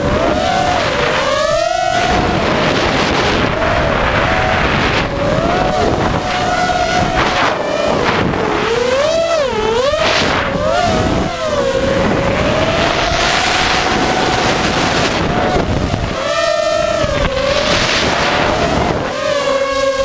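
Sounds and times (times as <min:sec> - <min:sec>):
drone motors whining: 0:00.0 - 0:20.0
wind rushing over microphone: 0:00.0 - 0:20.0.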